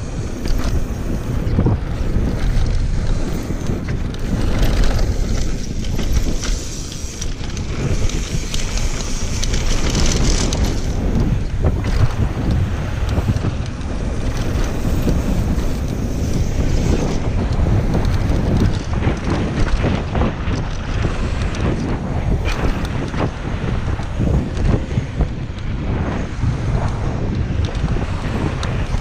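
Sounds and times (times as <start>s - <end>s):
bike rattling over bumps: 0.0s - 29.0s
bike tyres rumbling on gravel: 0.0s - 29.0s
wind buffeting microphone: 0.0s - 29.0s.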